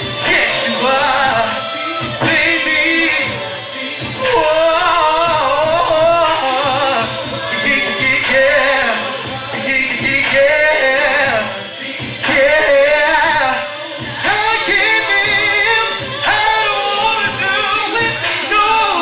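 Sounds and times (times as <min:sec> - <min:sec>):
backing music: 0:00.0 - 0:19.0
man singing into a microphone: 0:00.0 - 0:19.0.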